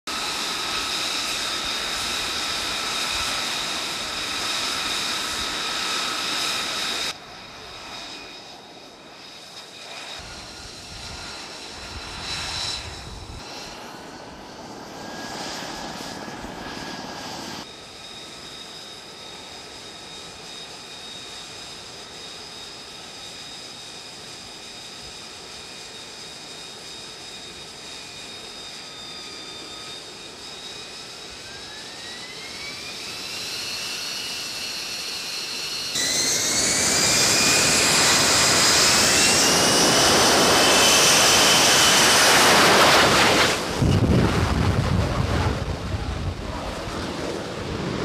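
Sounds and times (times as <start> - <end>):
jet engine whine: 0.0 - 48.0.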